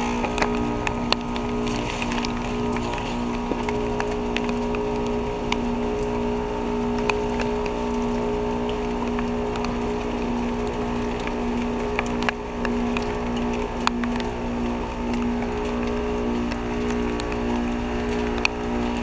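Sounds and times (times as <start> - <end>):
heat pump hum and hiss: 0.0 - 19.0
sharp ticks: 0.0 - 19.0.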